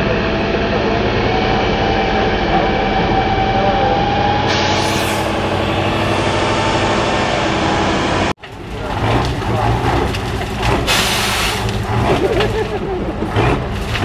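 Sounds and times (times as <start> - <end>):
diesel truck engine under load: 0.0 - 14.0.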